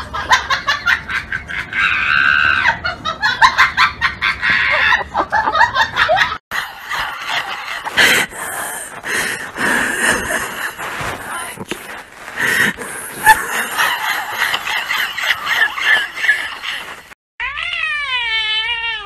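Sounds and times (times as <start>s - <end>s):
young people laughing: 0.0s - 17.2s.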